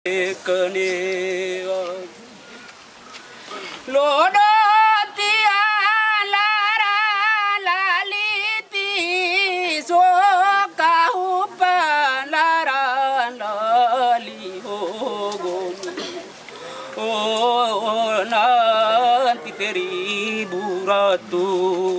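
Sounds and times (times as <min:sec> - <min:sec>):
man singing unaccompanied: 0:00.0 - 0:02.3, 0:03.8 - 0:21.9.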